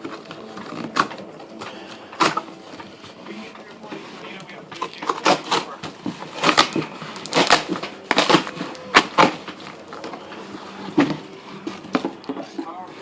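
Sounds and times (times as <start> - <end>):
cardboard crackling and knocking: 0.0 - 13.0.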